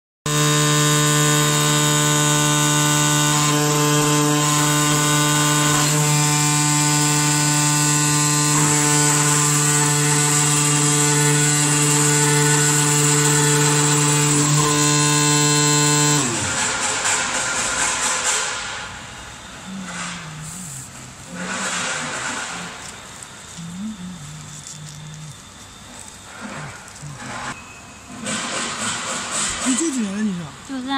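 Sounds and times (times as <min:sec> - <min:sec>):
cutting machine buzzing hum: 0:00.3 - 0:27.6.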